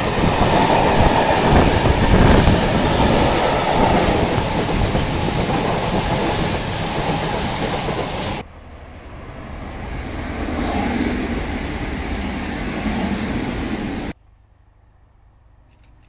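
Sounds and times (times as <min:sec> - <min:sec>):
freight wagons rumbling past: 0:00.0 - 0:14.2
passenger train passing: 0:00.0 - 0:14.2.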